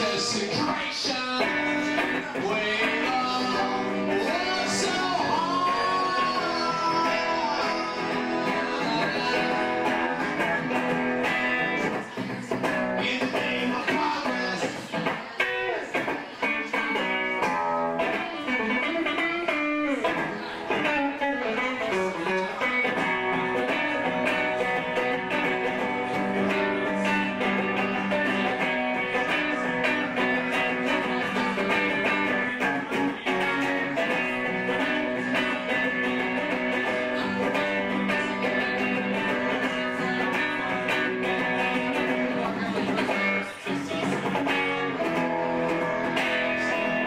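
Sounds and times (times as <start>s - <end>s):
electric guitar through amplifier: 0.0s - 47.0s.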